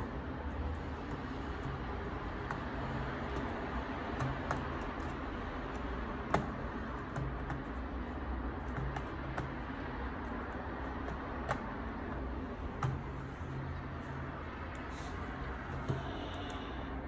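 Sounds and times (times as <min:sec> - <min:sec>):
plastic clicks and ticks: 0:00.0 - 0:17.0.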